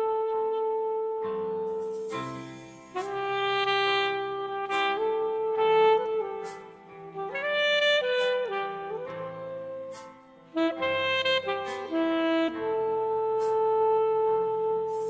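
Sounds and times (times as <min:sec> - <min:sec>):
saxophone playing slow melody: 0:00.0 - 0:15.0.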